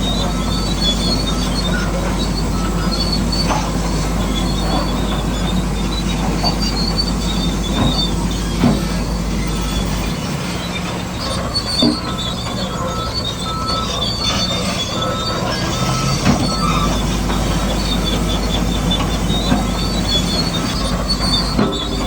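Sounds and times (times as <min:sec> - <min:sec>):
short high squeaks: 0:00.1 - 0:22.0
small motors and gears whirring: 0:00.4 - 0:22.0.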